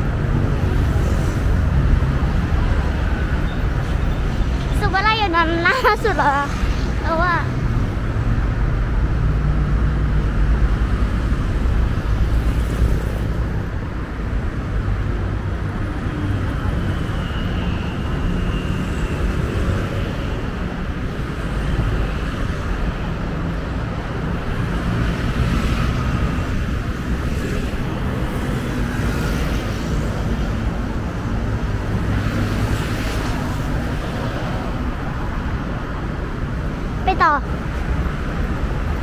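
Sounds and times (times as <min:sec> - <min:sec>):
cars and motorcycles passing: 0:00.0 - 0:39.0.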